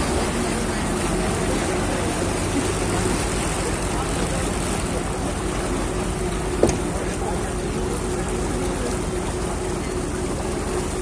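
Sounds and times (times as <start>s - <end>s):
boat engine droning: 0.0s - 11.0s
churning sea water: 0.0s - 11.0s.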